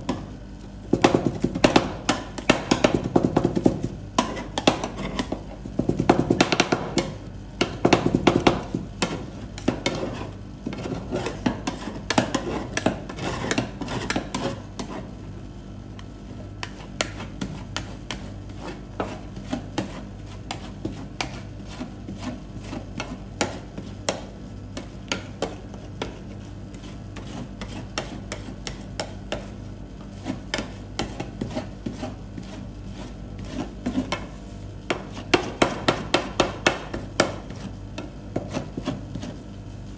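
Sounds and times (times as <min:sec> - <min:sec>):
steady low hum: 0:00.0 - 0:39.9
spatulas scraping ice cream: 0:04.1 - 0:05.7, 0:06.9 - 0:15.2, 0:16.6 - 0:39.6.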